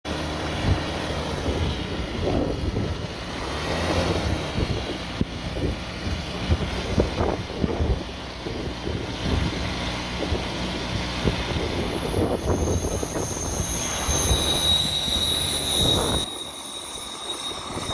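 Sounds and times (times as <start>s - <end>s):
engine droning: 0.0s - 17.9s.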